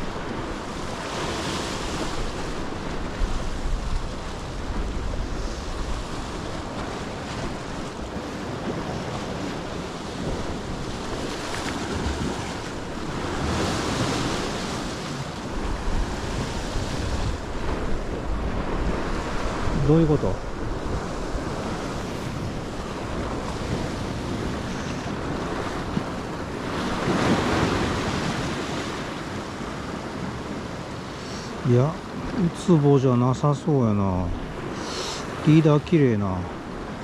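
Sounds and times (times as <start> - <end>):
wind buffeting microphone: 0.0 - 31.2
waves washing against rocks: 0.0 - 37.0.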